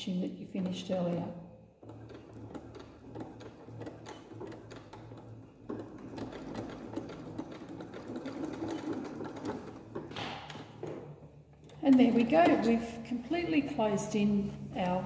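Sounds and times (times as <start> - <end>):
sewing machine stitching: 0.5 - 14.2.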